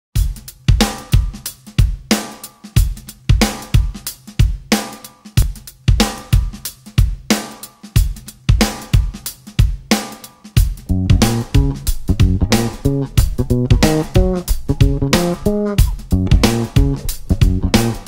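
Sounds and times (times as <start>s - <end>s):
drum kit playing steady beat: 0.2s - 18.0s.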